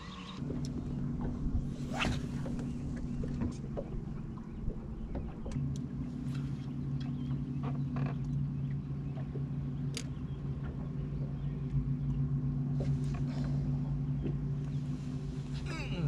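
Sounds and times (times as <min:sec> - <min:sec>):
electric boat motor humming: 0:00.0 - 0:16.0.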